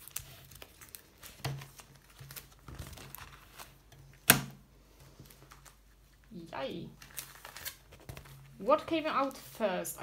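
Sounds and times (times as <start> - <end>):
plastic sleeves rustling: 0.0 - 10.0.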